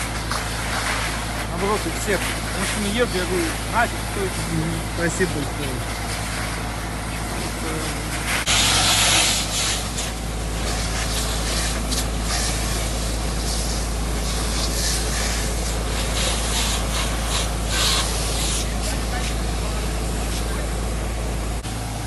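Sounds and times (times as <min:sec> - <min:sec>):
burning car hissing: 0:00.0 - 0:22.0.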